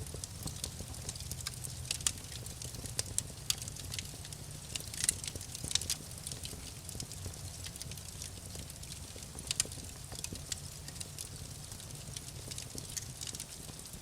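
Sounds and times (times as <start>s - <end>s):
low steady fire rumble: 0.0s - 14.0s
wood fire crackling and popping: 0.0s - 14.0s.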